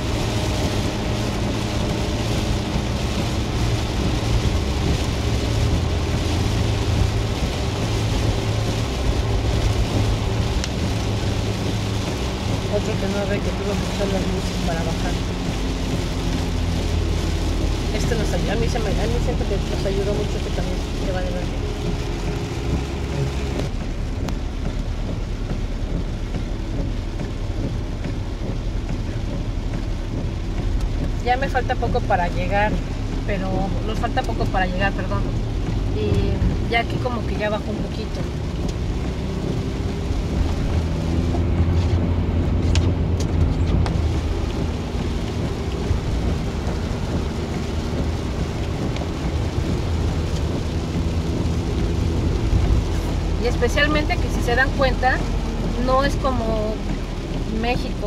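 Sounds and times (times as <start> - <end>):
heavy rain on car roof: 0.0 - 58.0
low road noise: 0.0 - 58.0.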